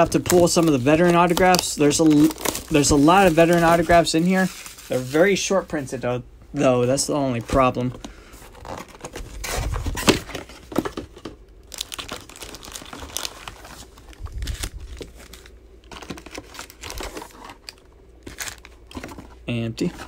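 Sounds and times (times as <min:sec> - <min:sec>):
card packs crinkling: 0:00.0 - 0:06.1, 0:06.7 - 0:20.0.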